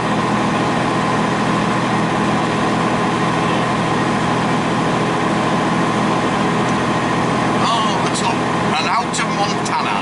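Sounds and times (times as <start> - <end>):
road noise: 0.0 - 10.0
truck diesel engine running: 0.0 - 10.0.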